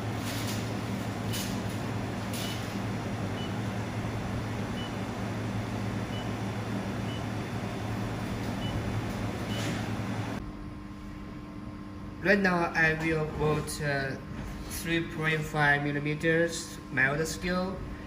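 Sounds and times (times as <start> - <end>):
machine hum and fan noise: 0.0 - 18.0.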